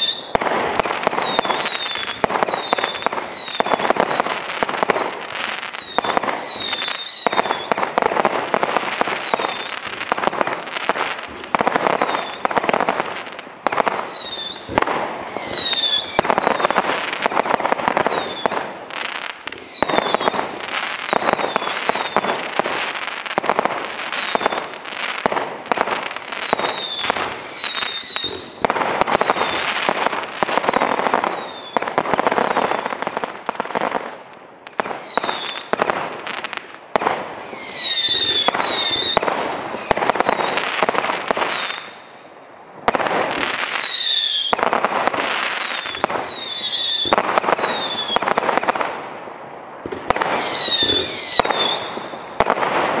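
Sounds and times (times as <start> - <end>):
fireworks whistles: 0.0 - 34.0, 34.6 - 42.1, 42.9 - 48.9, 49.8 - 53.0
fireworks popping and crackling: 0.0 - 53.0.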